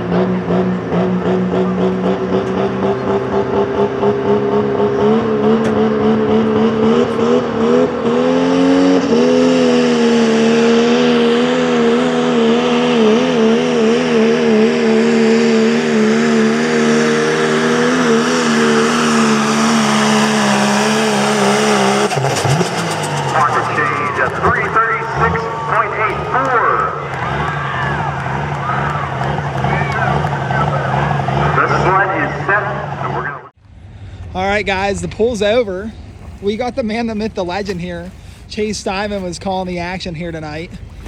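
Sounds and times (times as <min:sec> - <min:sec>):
truck engine at full throttle: 0:00.0 - 0:41.0.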